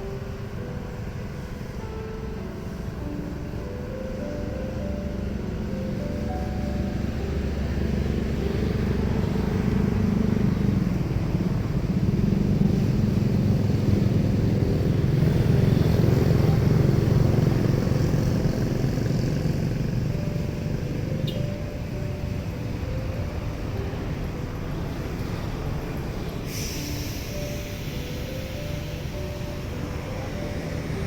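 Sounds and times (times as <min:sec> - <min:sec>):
airliner jet engines rumbling: 0:00.0 - 0:31.0.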